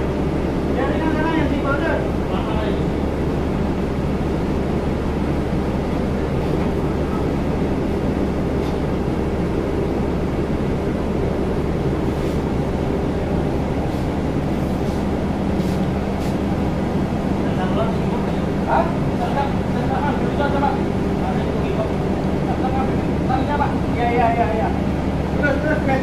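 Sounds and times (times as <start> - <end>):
machinery drone with low hum: 0.0 - 26.0.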